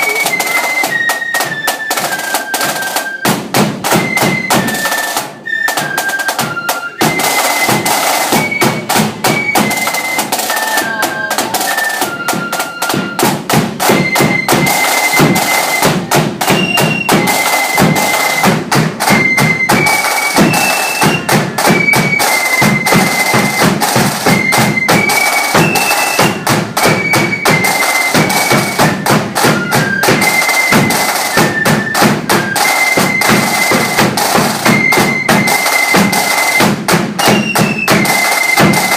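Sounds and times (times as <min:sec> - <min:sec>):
flutes playing a melody: 0:00.0 - 0:38.9
rapid marching drums: 0:00.0 - 0:38.9.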